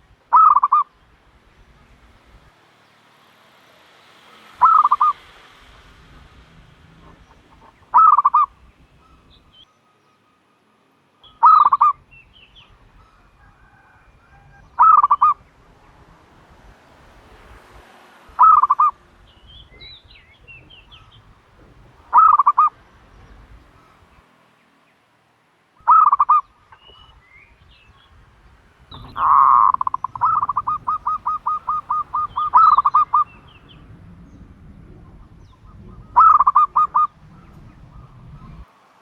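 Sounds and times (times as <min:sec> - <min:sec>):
turtle dove calling: 0:00.0 - 0:02.6, 0:04.4 - 0:10.4, 0:11.2 - 0:24.2, 0:25.8 - 0:38.7
small birds chirping: 0:00.0 - 0:03.3, 0:04.0 - 0:16.3, 0:18.4 - 0:25.0, 0:25.8 - 0:38.7.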